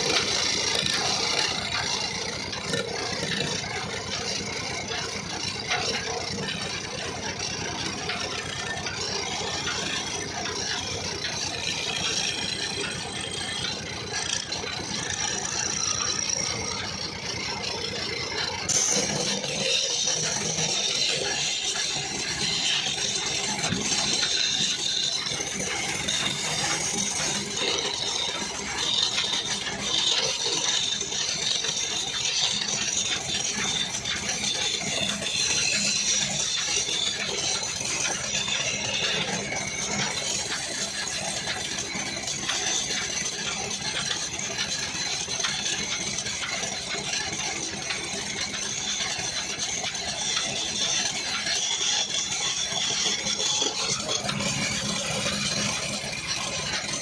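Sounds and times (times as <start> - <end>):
chisel scraping spinning wood: 0.0 - 57.0
lathe fine rattle: 0.0 - 57.0.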